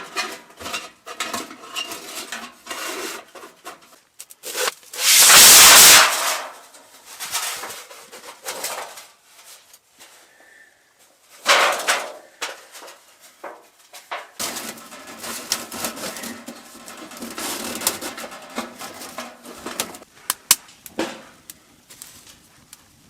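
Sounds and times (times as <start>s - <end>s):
metal stovepipe scraping: 0.0s - 10.2s, 11.3s - 20.1s.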